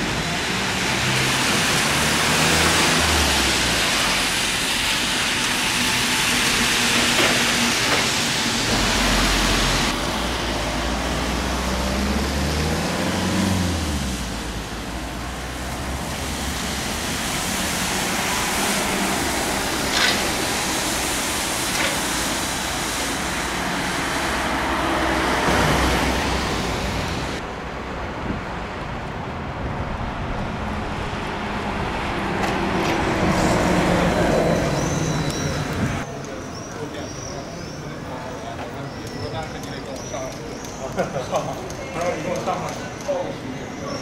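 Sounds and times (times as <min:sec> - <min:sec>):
tyre and traffic noise: 0:00.0 - 0:44.0.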